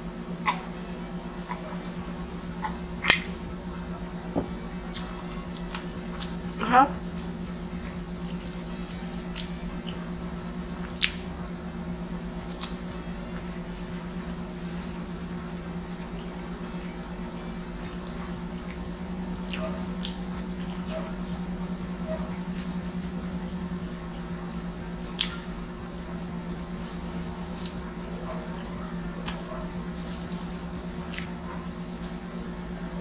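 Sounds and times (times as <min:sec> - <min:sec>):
steady low hum: 0:00.0 - 0:33.0
chewing pizza: 0:00.3 - 0:33.0.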